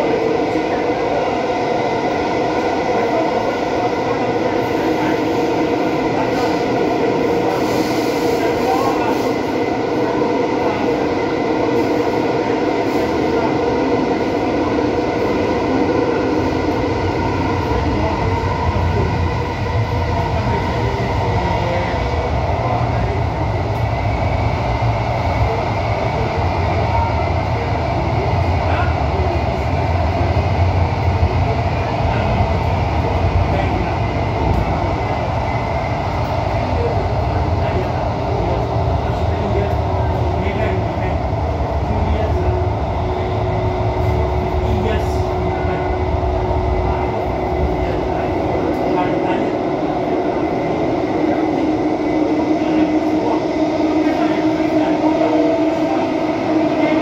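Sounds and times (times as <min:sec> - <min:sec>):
constant train whine: 0:00.0 - 0:57.0
train wheels rumbling on rail: 0:00.0 - 0:57.0.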